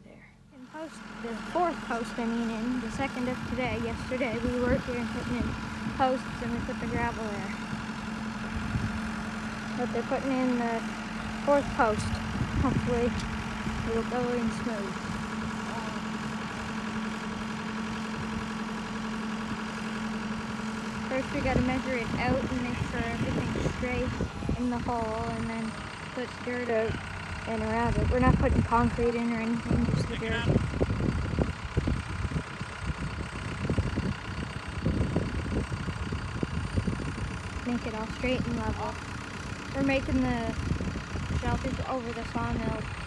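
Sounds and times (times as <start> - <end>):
backhoe engine idling: 0.0 - 43.0.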